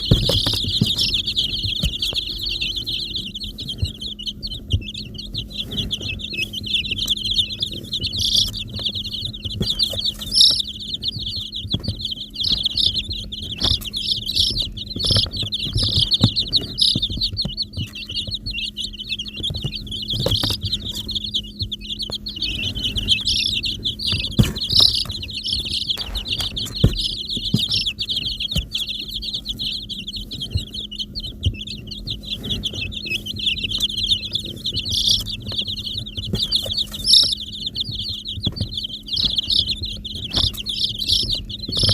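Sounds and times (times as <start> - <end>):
baby chicks peeping: 0.0 - 41.9
steady low hum: 0.0 - 41.9.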